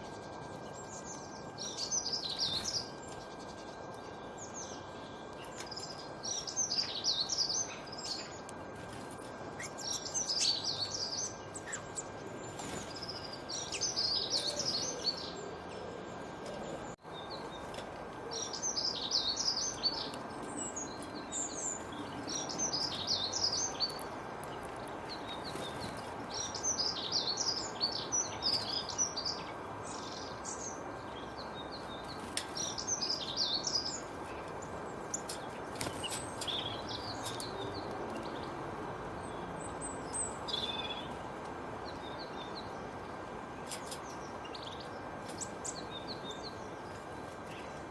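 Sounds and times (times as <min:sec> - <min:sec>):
birds singing: 0:00.0 - 0:47.9.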